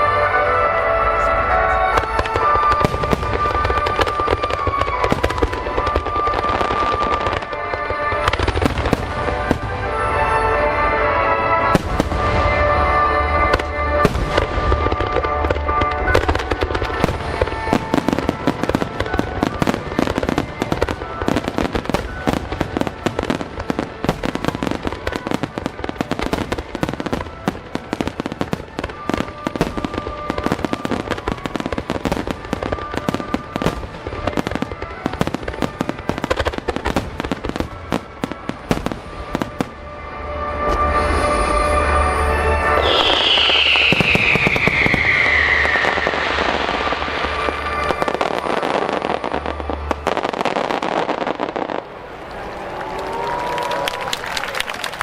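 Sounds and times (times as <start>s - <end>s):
music playing: 0.0s - 54.0s
fireworks bursts and crackling: 0.0s - 55.0s.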